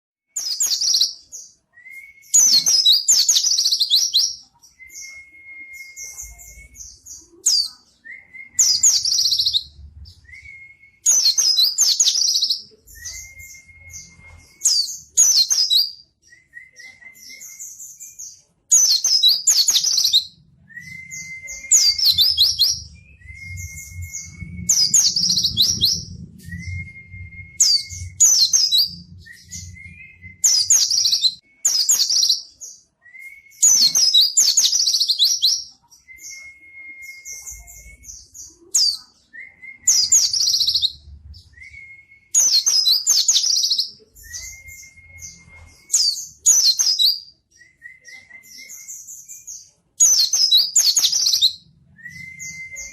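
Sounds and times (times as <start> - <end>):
bird singing: 0.4 - 38.6, 39.3 - 52.9.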